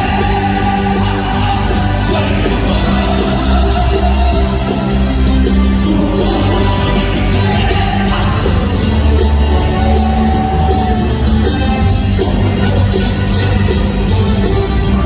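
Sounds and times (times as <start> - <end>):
band playing: 0.0 - 15.0
drum beat: 0.0 - 15.0
voices singing: 0.0 - 15.0.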